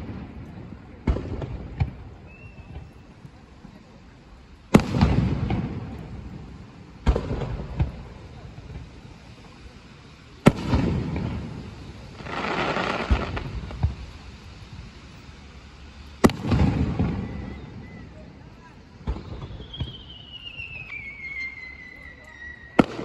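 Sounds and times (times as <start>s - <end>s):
firework booms: 0.0s - 3.8s, 4.7s - 15.2s, 16.2s - 21.6s, 22.6s - 23.0s
firework hiss: 0.0s - 23.0s
small firework pops: 0.0s - 23.0s.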